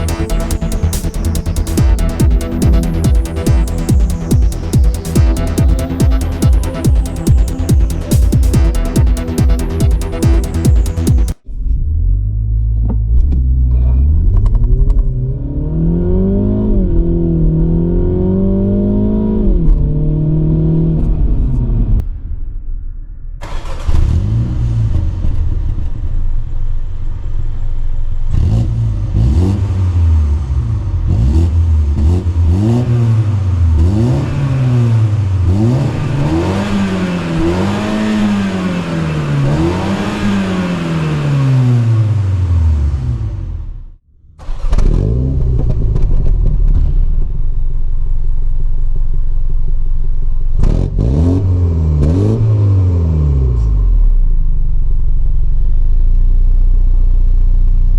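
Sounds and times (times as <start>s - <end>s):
car engine revving: 0.0s - 22.0s, 23.4s - 47.8s, 50.5s - 54.1s.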